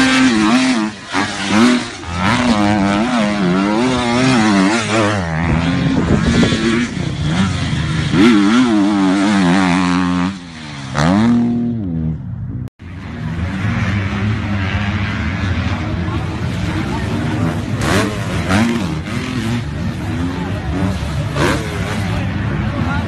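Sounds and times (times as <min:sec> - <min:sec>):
dirt bike engine revving: 0:00.0 - 0:12.2, 0:12.9 - 0:23.0.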